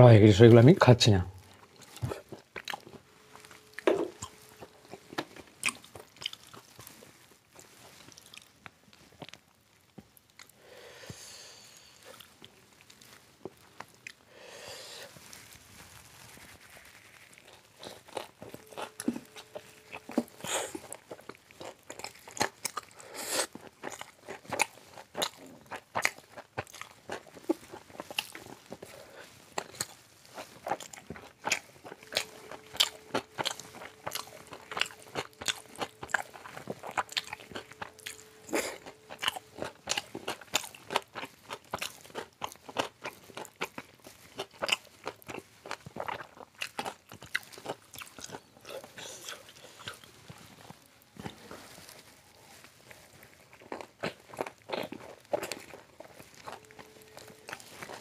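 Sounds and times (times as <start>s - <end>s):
crunchy chewing: 1.4s - 10.6s, 11.6s - 14.3s, 15.0s - 58.0s.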